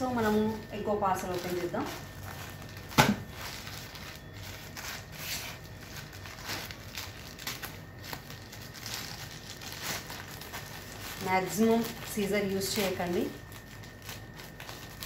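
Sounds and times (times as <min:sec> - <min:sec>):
plastic bag crinkling and tearing: 0:00.0 - 0:15.0.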